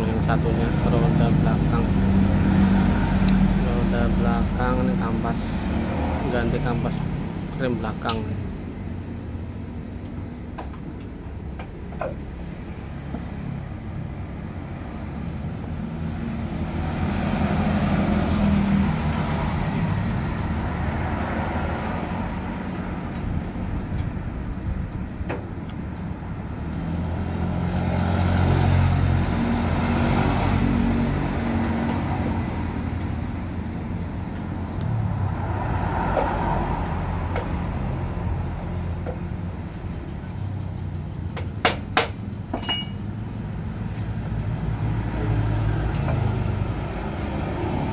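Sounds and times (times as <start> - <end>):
road traffic passing: 0.0 - 47.9.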